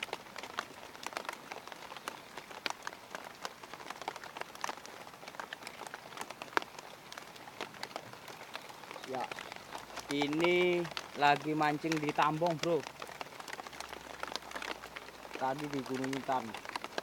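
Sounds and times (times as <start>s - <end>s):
rain patter: 0.0s - 17.0s
raindrops tapping close by: 0.0s - 17.0s.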